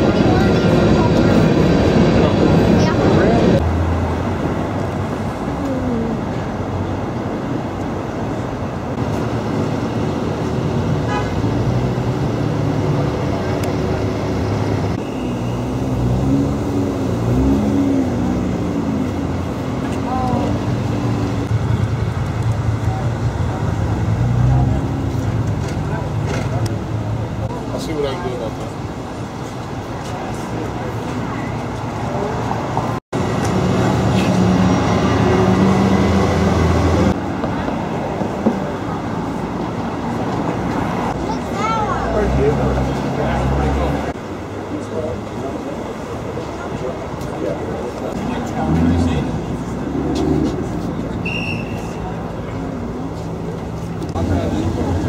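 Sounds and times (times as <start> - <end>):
outdoor hubbub: 0.0 - 55.0
traffic rumble: 0.0 - 55.0.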